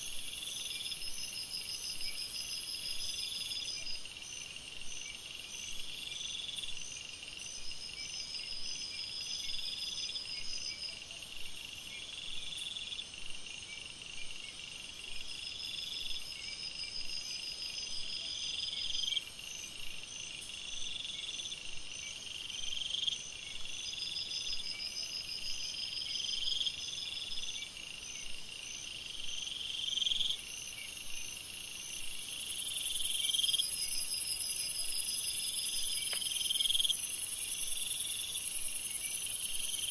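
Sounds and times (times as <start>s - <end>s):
crickets chirping: 0.0s - 39.9s
high steady insect buzz: 0.0s - 39.9s.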